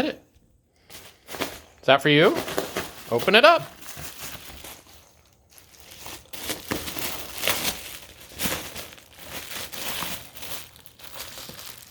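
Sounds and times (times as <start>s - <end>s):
dog tearing packaging: 2.4s - 11.9s.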